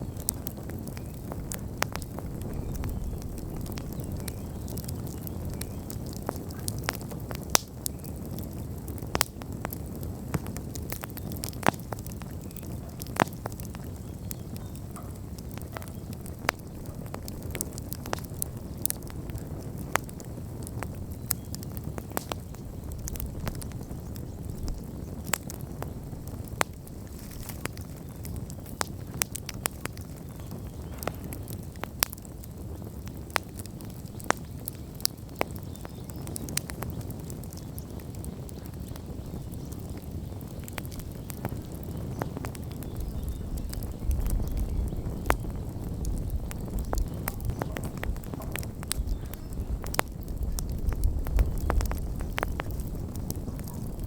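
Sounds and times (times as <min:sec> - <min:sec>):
fire crackles and pops: 0:00.0 - 0:54.0
rumble of bonfire flames: 0:00.0 - 0:54.0.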